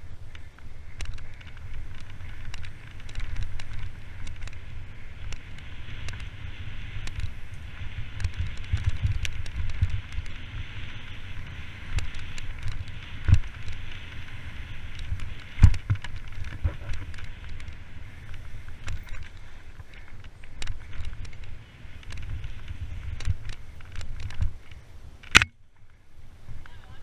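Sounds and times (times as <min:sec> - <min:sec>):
bike clicks and rattles: 0:00.0 - 0:26.0
wind and tyres rumbling: 0:00.0 - 0:27.0.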